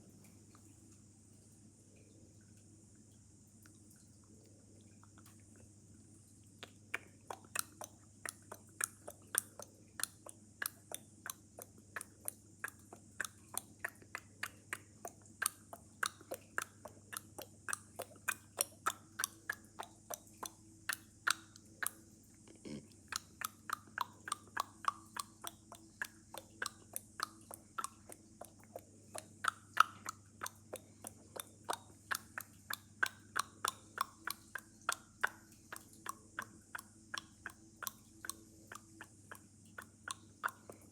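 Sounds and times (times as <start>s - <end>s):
person making clicking noises: 6.6s - 40.9s.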